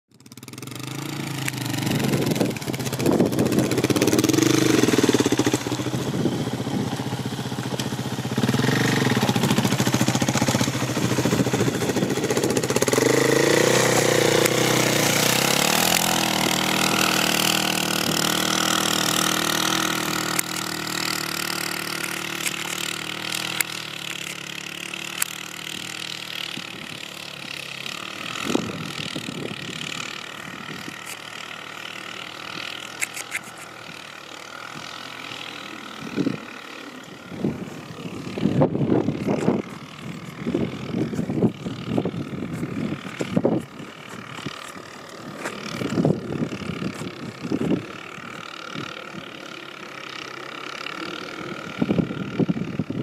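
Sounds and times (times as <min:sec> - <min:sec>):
quad engine revving: 0:00.1 - 0:53.0.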